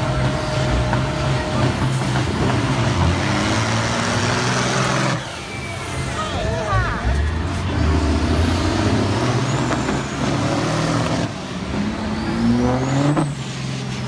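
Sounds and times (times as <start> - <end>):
tractor engine revving: 0.0 - 6.2, 7.0 - 14.0.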